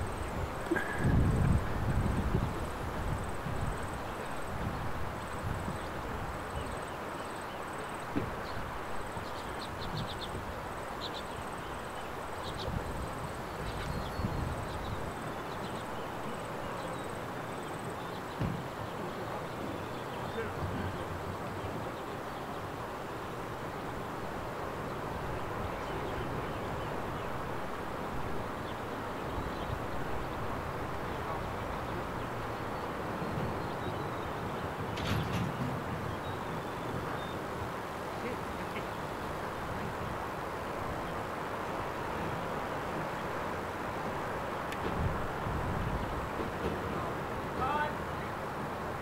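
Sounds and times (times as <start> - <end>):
low rumbling hiss: 0.0 - 49.0
wind and field noise: 0.0 - 49.0.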